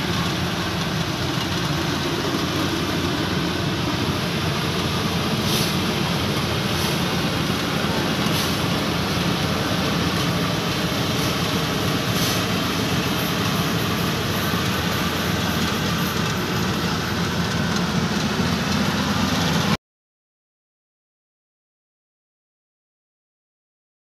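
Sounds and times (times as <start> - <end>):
combine harvester running: 0.0 - 19.8.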